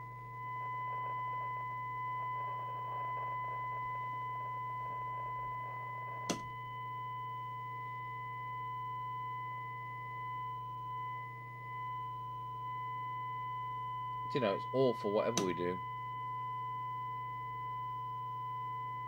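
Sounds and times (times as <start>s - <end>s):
distorted test tone from radio speaker: 0.0s - 19.0s
low hum: 0.0s - 19.0s.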